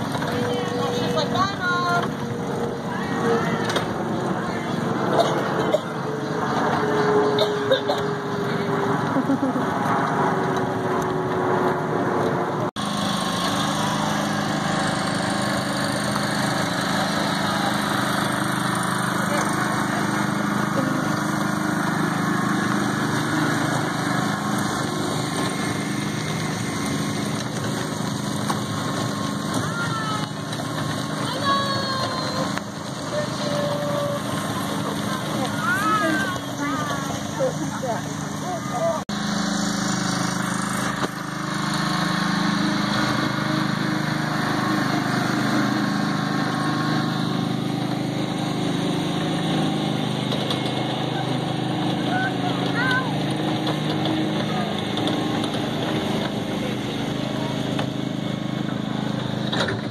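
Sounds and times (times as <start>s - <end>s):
garden tractor engine running: 0.0s - 59.9s.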